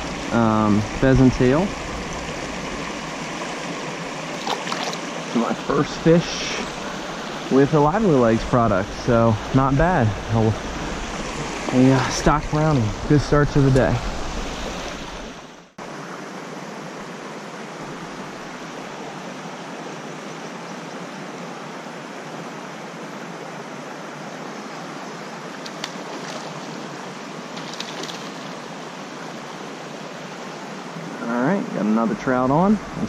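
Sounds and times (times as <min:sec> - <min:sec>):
creek water flowing: 0:00.0 - 0:33.0.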